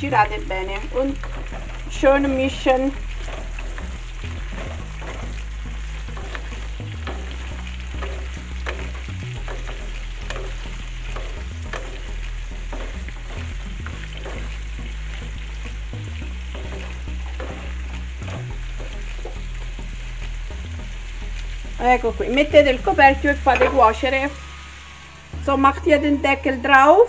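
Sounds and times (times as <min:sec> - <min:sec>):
pumpkin sizzling in oil: 0:00.0 - 0:27.0.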